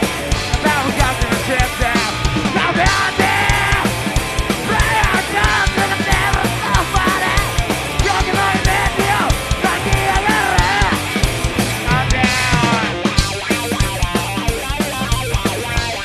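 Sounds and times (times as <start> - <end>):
drum beats: 0.0 - 16.0
rock band playing: 0.0 - 16.0
sliding lead guitar melody: 0.0 - 16.0.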